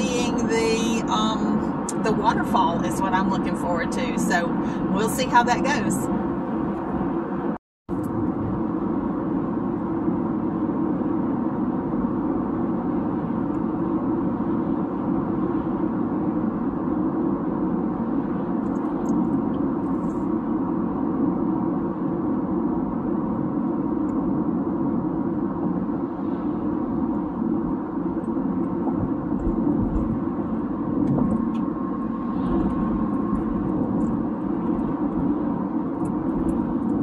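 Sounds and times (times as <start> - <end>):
car cabin road noise drone: 0.0 - 37.0.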